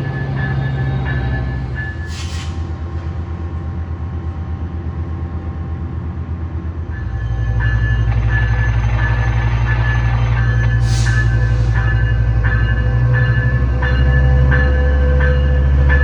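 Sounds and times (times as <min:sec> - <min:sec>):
diesel locomotive engine throbbing: 0:00.0 - 0:16.0.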